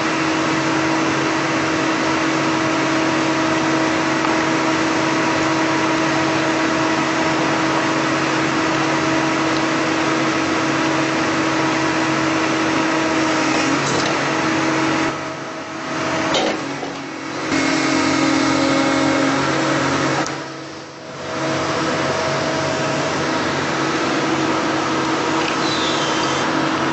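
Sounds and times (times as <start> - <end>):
excavator engine and hydraulics whine: 0.0 - 26.9.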